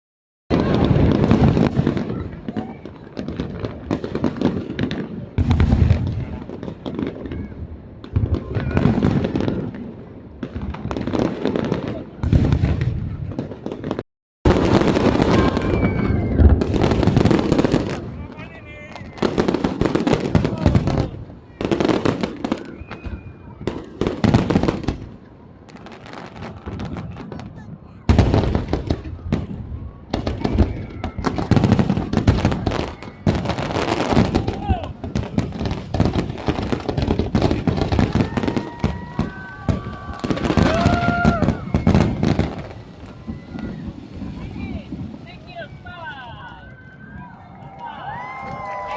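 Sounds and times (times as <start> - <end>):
fireworks bangs and crackles: 0.5 - 48.9.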